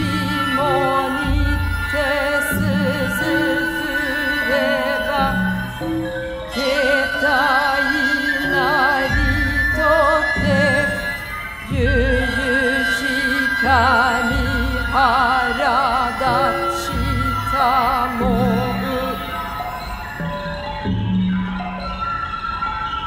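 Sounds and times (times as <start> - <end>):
long held high tone: 0.0 - 23.0
wavering vibrato melody: 0.0 - 23.0.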